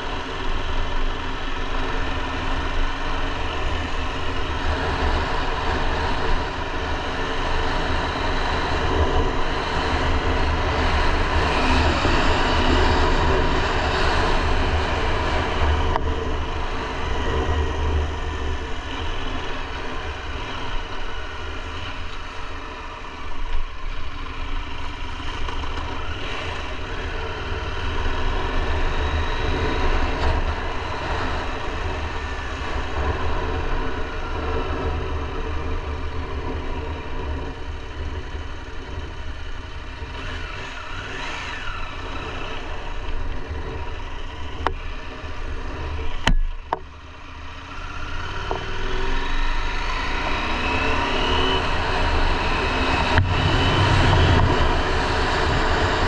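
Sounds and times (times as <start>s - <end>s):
low wind rumble: 0.0s - 56.0s
motorcycle engine running: 0.0s - 56.0s.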